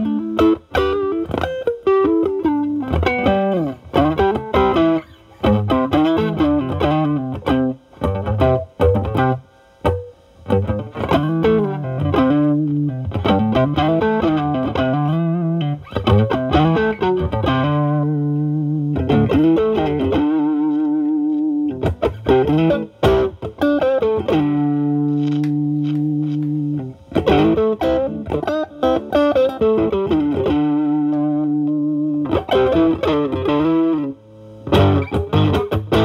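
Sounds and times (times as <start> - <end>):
overdriven electric guitar blues phrases: 0.0 - 36.0.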